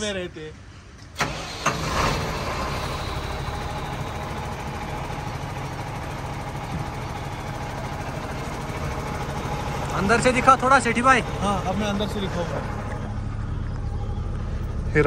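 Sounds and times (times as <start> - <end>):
diesel truck engine idling: 1.1 - 15.0.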